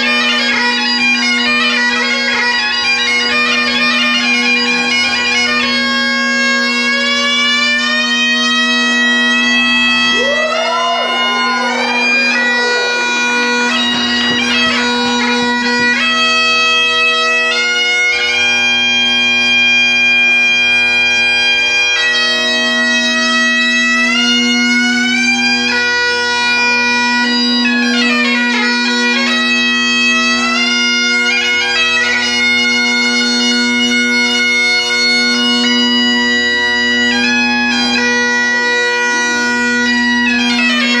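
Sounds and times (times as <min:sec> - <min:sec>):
bagpipe melody with drones: 0:00.0 - 0:41.0.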